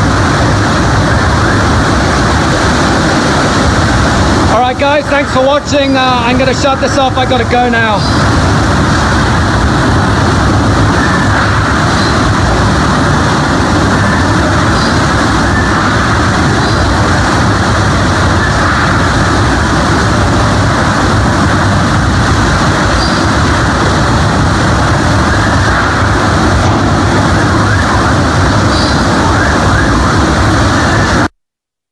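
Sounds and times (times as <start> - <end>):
driving rain: 0.0 - 31.3
strong wind: 0.0 - 31.3.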